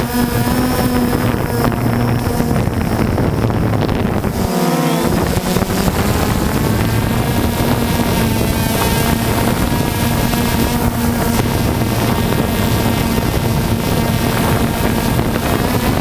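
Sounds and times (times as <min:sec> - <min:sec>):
drone motors whining: 0:00.0 - 0:16.0
wind buffeting microphone: 0:00.0 - 0:16.0.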